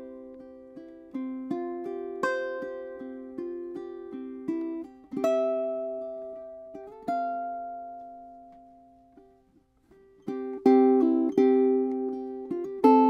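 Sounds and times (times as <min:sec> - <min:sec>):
ukulele chords plucked: 0:00.0 - 0:13.0.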